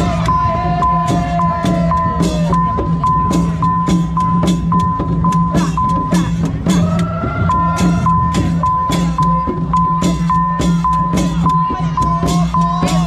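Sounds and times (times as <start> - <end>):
fast steady drum beat: 0.0 - 13.0.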